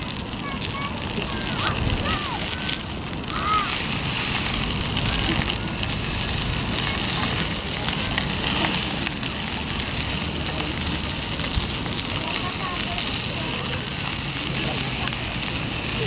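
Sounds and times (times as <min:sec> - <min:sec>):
campfire pops: 0:00.0 - 0:16.0
meat sizzling on a grill: 0:00.0 - 0:16.0.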